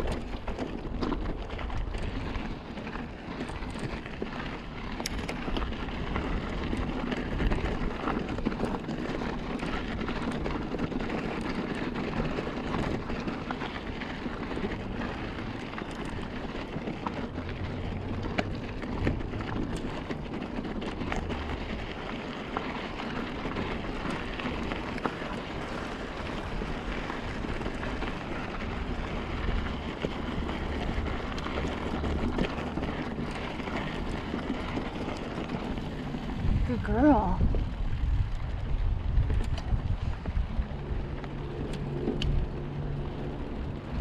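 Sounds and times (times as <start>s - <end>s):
bike clicks and rattles: 0.0s - 36.7s, 37.4s - 44.0s
bike tyres on loose gravel: 0.0s - 44.0s
wind noise on microphone: 0.0s - 44.0s.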